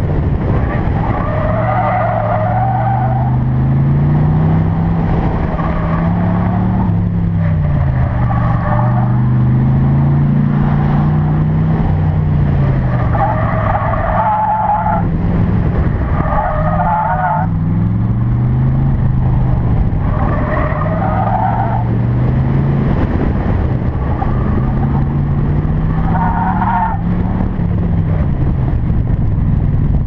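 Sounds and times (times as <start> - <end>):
tires squealing: 0.0 - 28.4
car engine revving: 0.0 - 30.0.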